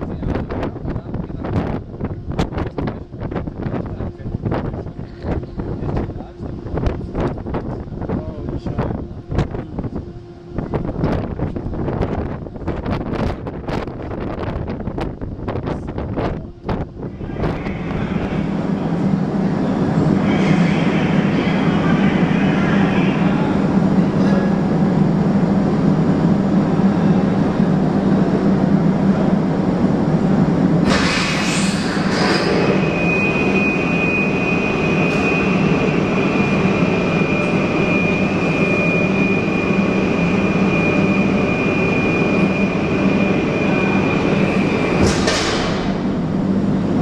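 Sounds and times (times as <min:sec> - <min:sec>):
high whine: 0:00.0 - 0:47.0
machinery rumble and hum: 0:00.0 - 0:47.0.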